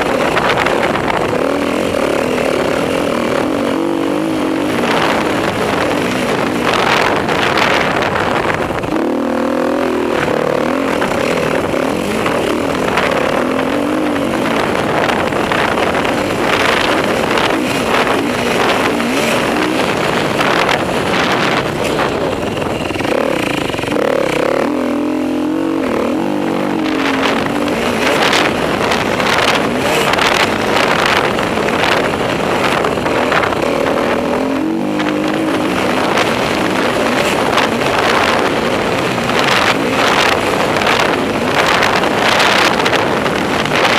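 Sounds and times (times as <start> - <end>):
motorcycle engine revving: 0.0 - 43.9
steady rushing noise: 0.0 - 43.9.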